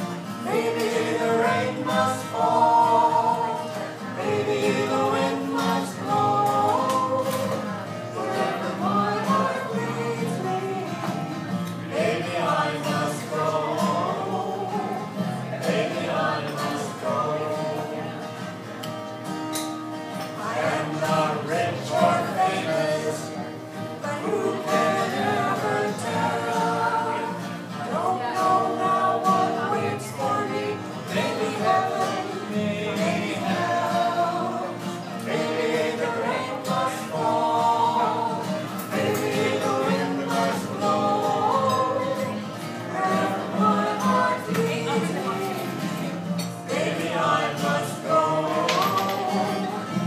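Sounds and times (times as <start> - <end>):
voices singing in harmony: 0.0 - 18.6, 19.6 - 50.0
acoustic guitars strumming: 0.0 - 50.0.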